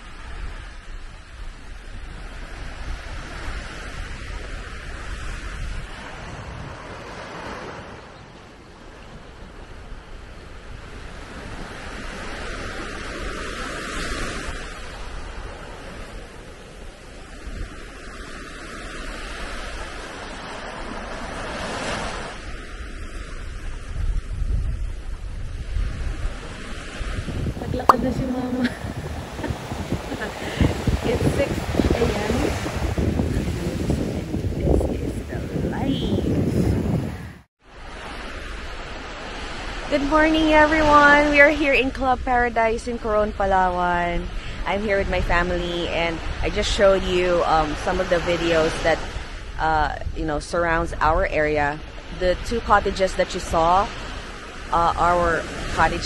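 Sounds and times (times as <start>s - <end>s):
small waves breaking on shore: 0.0s - 56.0s
wind rumbling on microphone: 0.0s - 56.0s.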